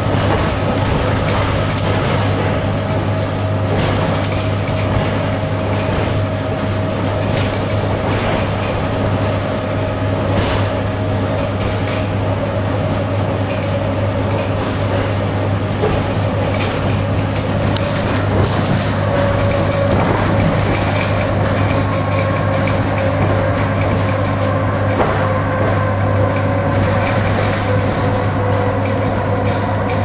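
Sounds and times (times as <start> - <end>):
electric train running hum: 0.0 - 30.0
rolling noise of train: 0.0 - 30.0.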